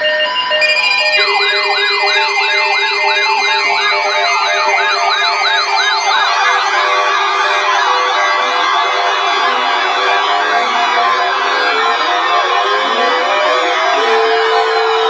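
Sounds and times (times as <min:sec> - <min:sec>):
electronic alert siren wailing: 0:00.0 - 0:15.0.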